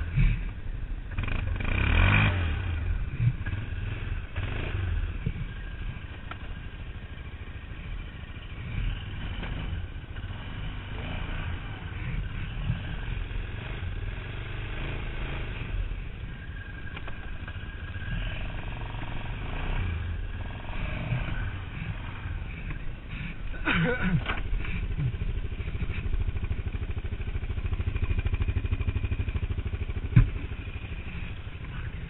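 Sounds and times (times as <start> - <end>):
tracked vehicle engine rumble: 0.0 - 32.0.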